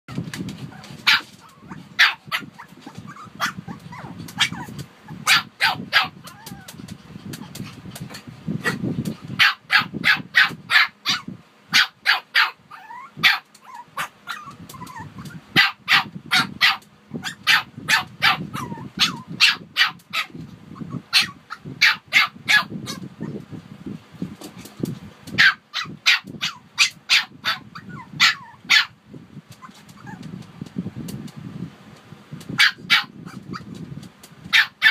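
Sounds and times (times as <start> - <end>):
small dogs yapping: 0.6 - 8.8, 9.4 - 23.4, 25.3 - 30.4, 32.5 - 33.8, 34.5 - 34.9.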